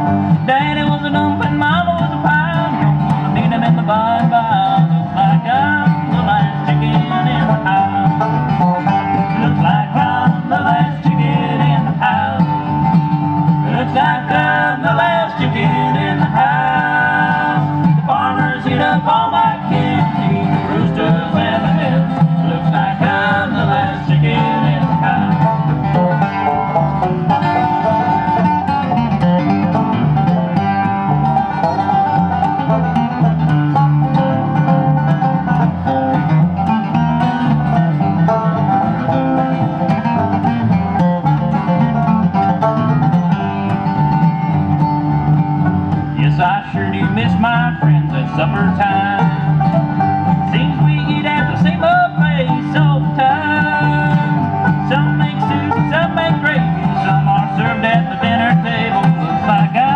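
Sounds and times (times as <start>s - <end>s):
acoustic bluegrass band: 0.0s - 59.9s
banjo: 0.0s - 59.9s
guitar: 0.0s - 59.9s.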